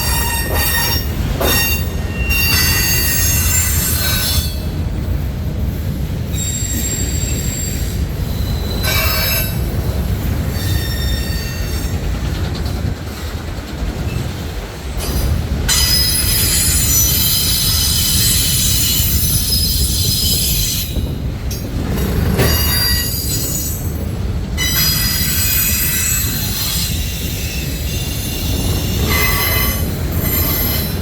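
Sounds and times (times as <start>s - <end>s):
train wheels squealing: 0.0s - 4.6s, 6.3s - 12.2s, 15.0s - 24.0s, 24.6s - 31.0s
freight train cars rumbling: 0.0s - 31.0s.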